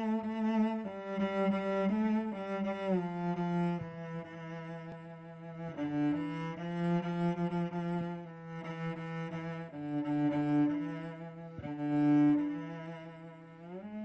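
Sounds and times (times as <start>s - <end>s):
bowed cello notes: 0.0s - 14.0s.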